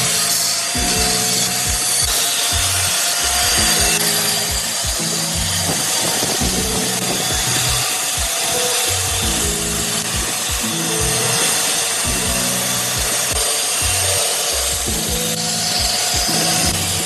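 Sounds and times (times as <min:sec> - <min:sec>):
background music with beat: 0:00.0 - 0:17.0.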